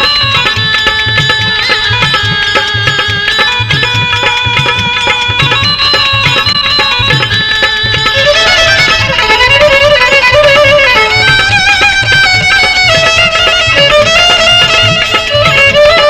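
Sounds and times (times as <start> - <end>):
steady drum rhythm: 0.0 - 16.0
wavering lead melody: 0.0 - 16.0.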